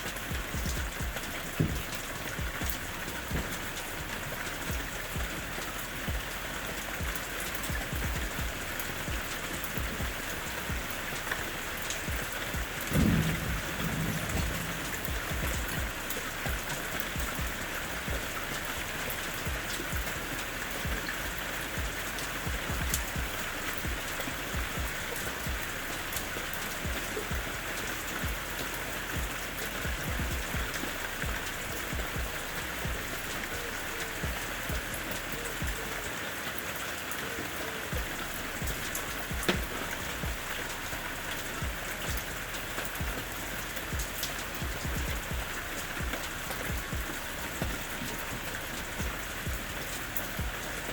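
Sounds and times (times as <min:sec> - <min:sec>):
raindrops ticking: 0:00.0 - 0:50.9
steady rain hiss: 0:00.0 - 0:50.9.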